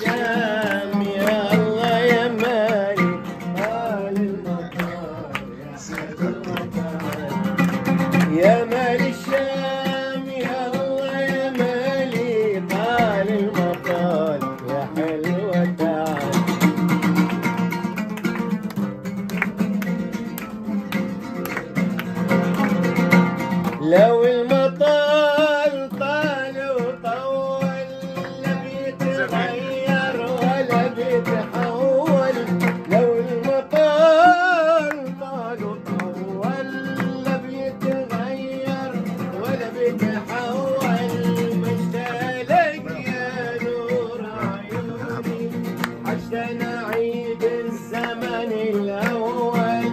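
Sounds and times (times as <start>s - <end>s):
hand claps: 0.0s - 49.9s
oud plucked and strummed: 0.0s - 49.9s.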